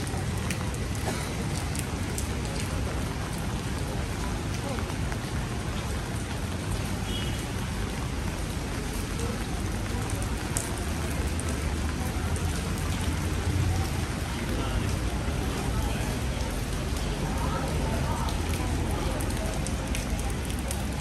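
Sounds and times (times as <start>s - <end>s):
heavy rain on pavement: 0.0s - 21.0s.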